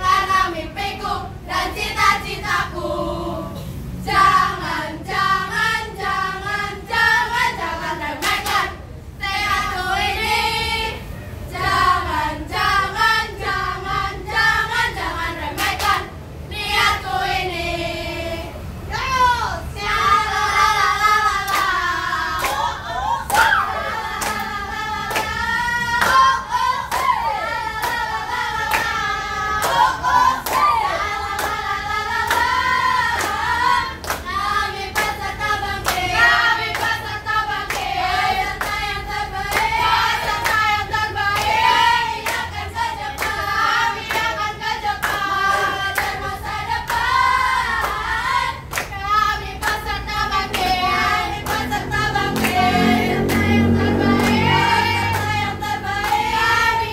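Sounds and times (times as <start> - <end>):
women singing together: 0.0 - 56.9
rhythmic hand claps: 4.0 - 10.4, 12.5 - 17.1, 19.8 - 56.9.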